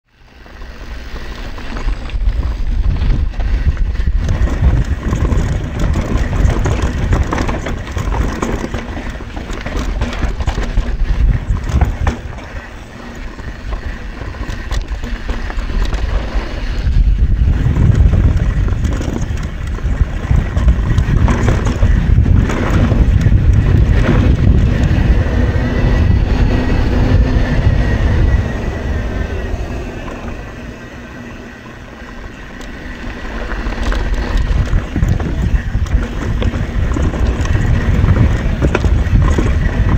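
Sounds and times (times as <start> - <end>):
wind rumbling on microphone: 0.1 - 39.9
tyres rolling over dirt: 0.2 - 39.9
bike clattering over roots: 0.6 - 26.8, 30.0 - 39.9.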